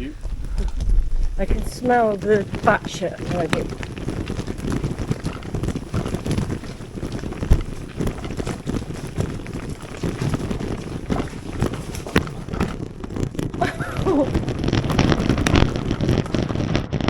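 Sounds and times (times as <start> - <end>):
bicycle rattling on stony track: 0.0 - 17.0
wind buffeting microphone: 0.0 - 17.0.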